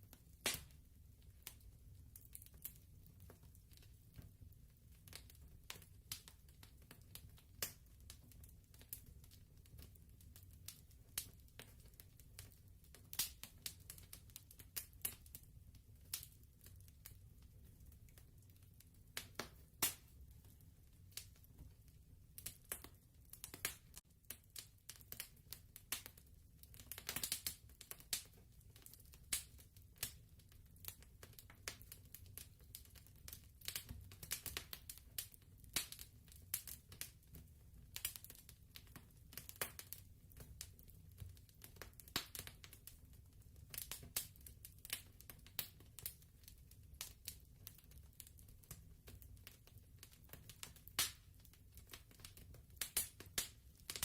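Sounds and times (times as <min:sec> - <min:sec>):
fireplace crackling: 0:00.0 - 0:54.0.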